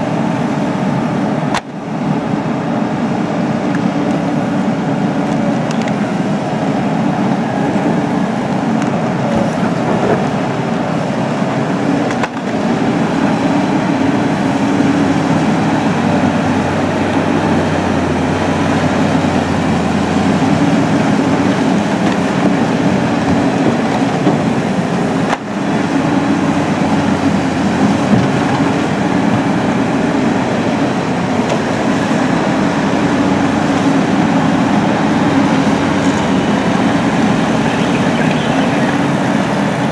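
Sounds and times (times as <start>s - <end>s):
excavator diesel engine drone: 0.0s - 39.9s.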